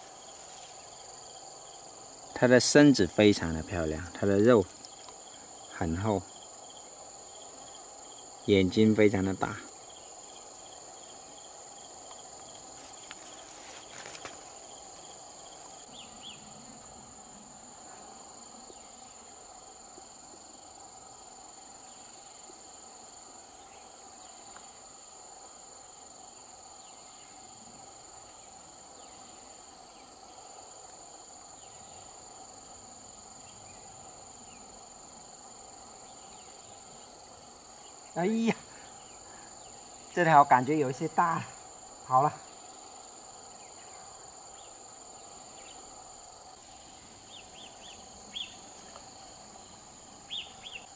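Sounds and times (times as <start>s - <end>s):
insect chorus trilling: 0.0s - 50.9s.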